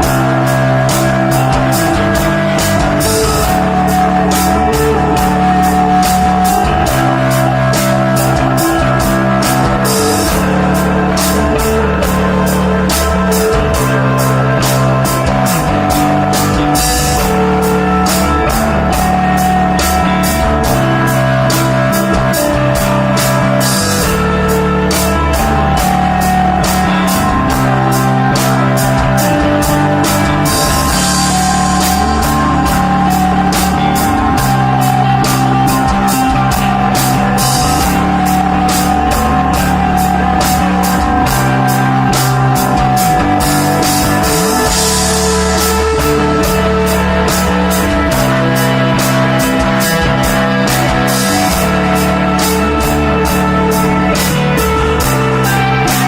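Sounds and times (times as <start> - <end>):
electric guitar: 0.0 - 56.0
held bass notes: 0.0 - 56.0
live rock band: 0.0 - 56.0
steady cymbal beat: 0.0 - 56.0.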